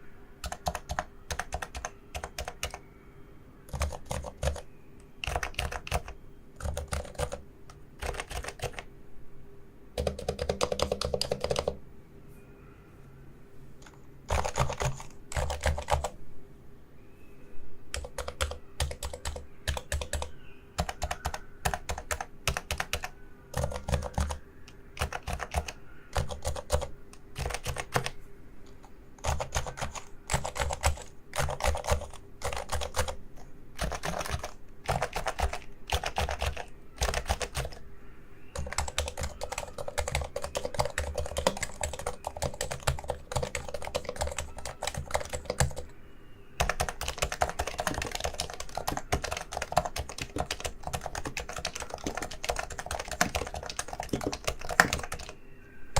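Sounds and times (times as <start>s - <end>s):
typing on keyboard: 0.4s - 2.8s, 3.7s - 8.9s, 10.0s - 11.8s, 13.8s - 16.2s, 17.9s - 37.8s, 38.5s - 46.0s, 46.6s - 55.4s.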